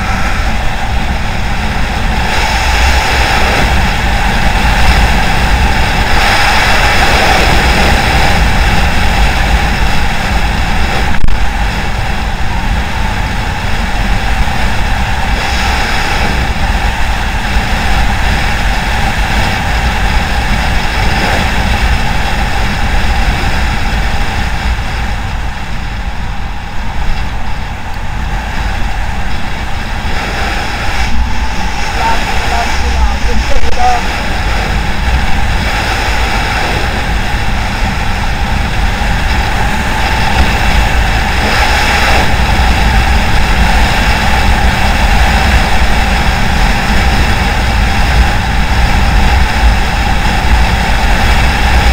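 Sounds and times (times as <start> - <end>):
wind buffeting camera: 0.0 - 51.9.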